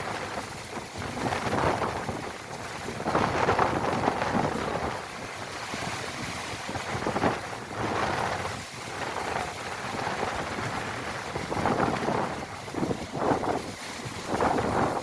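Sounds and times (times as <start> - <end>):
wind gusting over microphone: 0.0 - 15.0.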